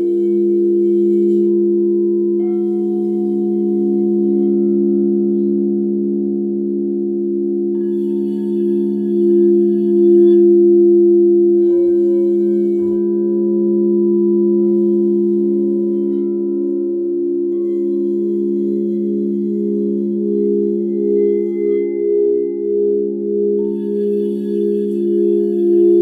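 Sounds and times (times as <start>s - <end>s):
singing bowls ringing: 0.0s - 26.0s.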